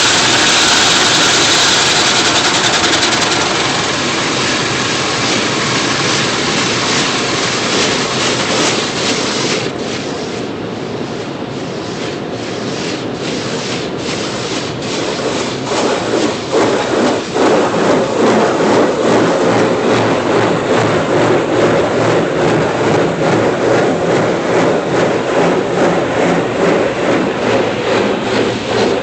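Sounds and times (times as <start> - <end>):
car being scrubbed: 0.0 - 29.0.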